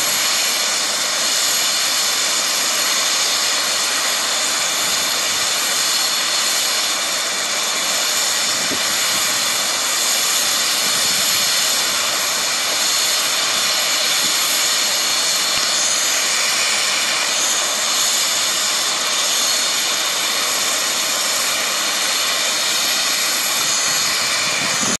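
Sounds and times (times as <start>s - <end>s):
helicopter turbine whine: 0.0s - 25.0s
rotor rushing hiss: 0.0s - 25.0s.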